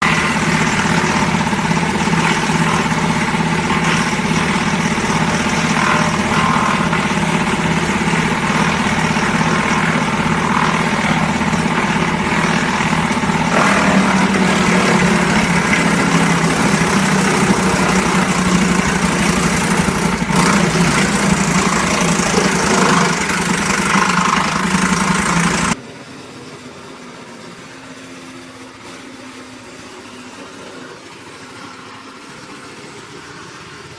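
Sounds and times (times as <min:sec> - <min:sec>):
wood chipper diesel engine: 0:00.0 - 0:33.9.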